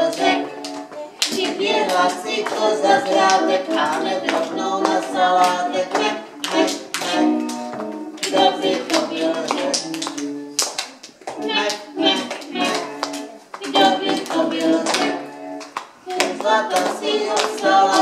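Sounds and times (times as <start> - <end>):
person singing: 0.0 - 10.6, 11.4 - 18.0
hand clapping steady beat: 0.0 - 18.0.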